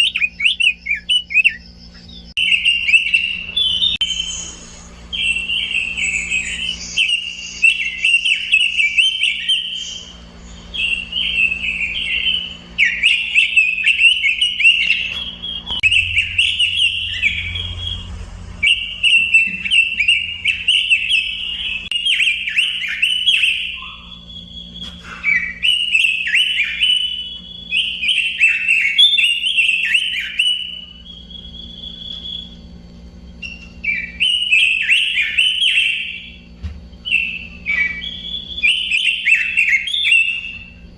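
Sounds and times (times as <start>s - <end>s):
bird warbling song: 0.0s - 32.5s, 33.3s - 40.9s.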